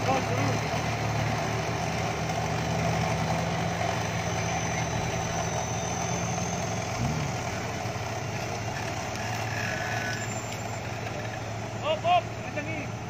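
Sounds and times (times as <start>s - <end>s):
suv engine running at low revs: 0.0s - 13.0s.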